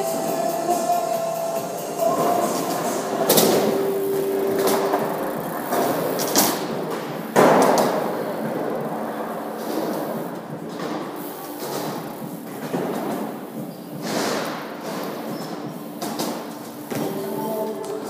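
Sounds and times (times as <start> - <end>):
bike tyres rolling: 0.0 - 18.0.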